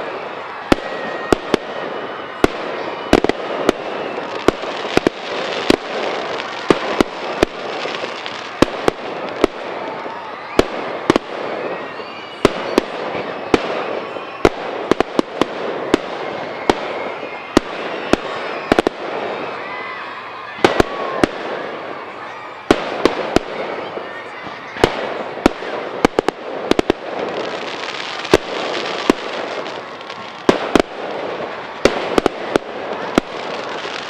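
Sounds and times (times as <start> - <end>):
faint firework whistles: 0.0 - 34.0
fireworks crackle and hiss: 0.0 - 34.0.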